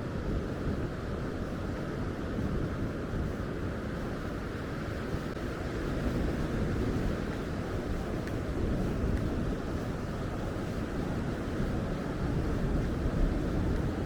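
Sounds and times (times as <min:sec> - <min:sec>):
sea waves on beach: 0:00.0 - 0:14.0
wind rumble on microphone: 0:00.0 - 0:14.0.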